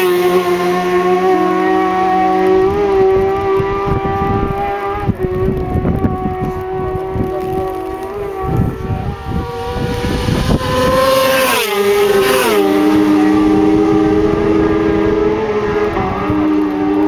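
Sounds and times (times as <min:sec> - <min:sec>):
high engine drone: 0:00.0 - 0:17.0
racing motorcycles passing: 0:00.0 - 0:17.0.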